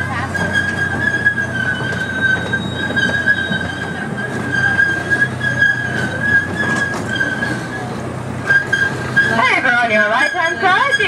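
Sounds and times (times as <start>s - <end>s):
high-pitched wheel squeal: 0.0s - 11.0s
low rumble of train cars: 0.0s - 11.0s.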